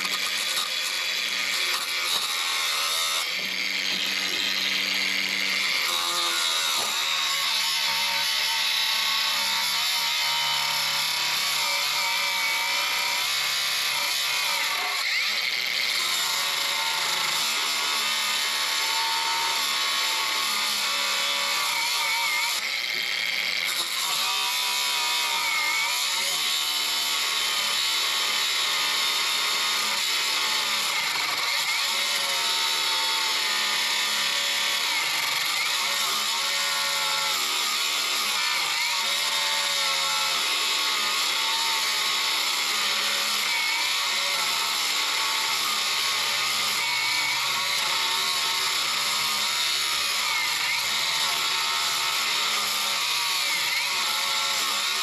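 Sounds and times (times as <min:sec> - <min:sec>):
die grinder cutting bolt: 0:00.0 - 0:55.0.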